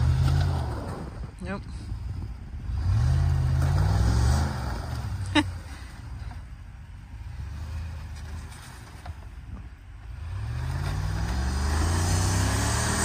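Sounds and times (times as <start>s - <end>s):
truck engine revving: 0.0s - 1.4s, 2.1s - 13.0s.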